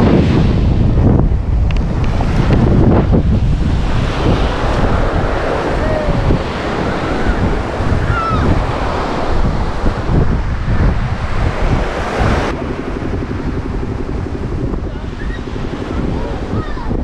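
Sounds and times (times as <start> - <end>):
sea surf breaking on sand: 0.0 - 17.0
wind buffeting microphone: 0.0 - 17.0.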